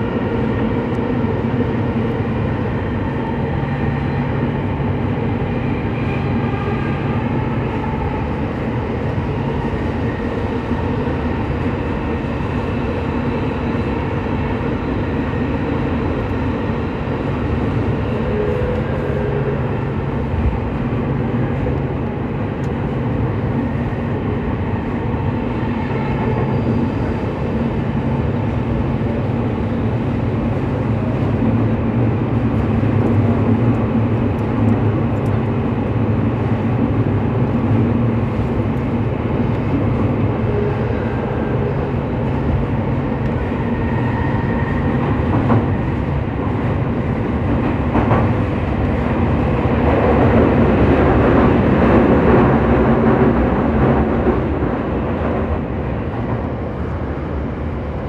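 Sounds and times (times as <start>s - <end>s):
train wheels and motors rumbling: 0.0s - 58.0s.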